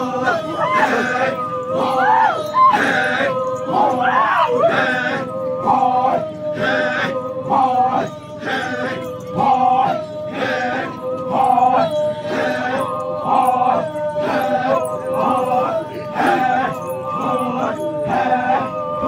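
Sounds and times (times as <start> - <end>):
men chanting: 0.0 - 19.0.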